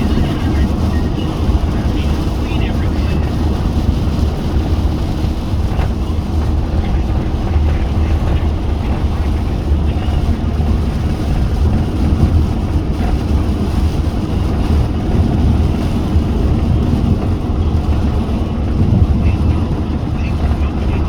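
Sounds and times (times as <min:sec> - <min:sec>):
car tyres and engine rumble: 0:00.0 - 0:21.0.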